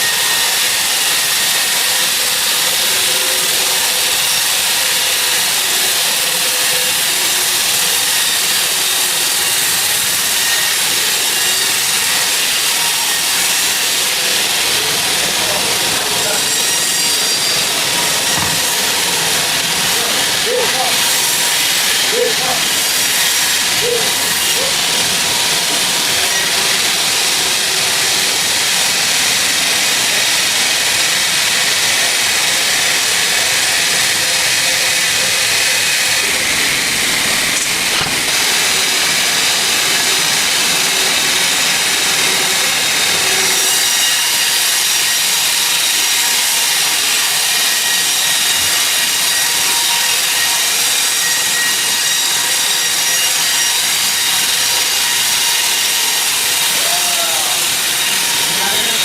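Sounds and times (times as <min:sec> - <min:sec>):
saw cutting through log: 0:00.0 - 0:59.0.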